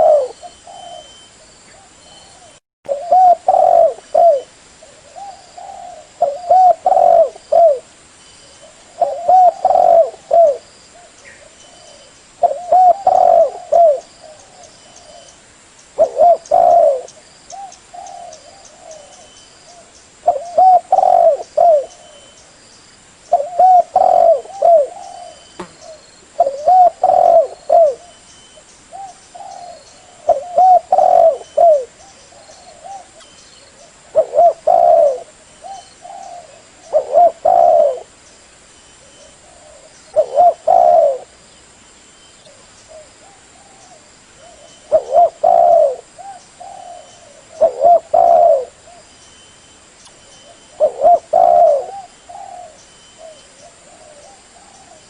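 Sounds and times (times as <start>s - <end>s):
dove cooing: 0.0s - 7.9s, 8.6s - 15.3s, 16.0s - 22.4s, 23.3s - 28.2s, 28.9s - 38.2s, 39.0s - 41.4s, 42.4s - 49.1s, 50.4s - 55.0s.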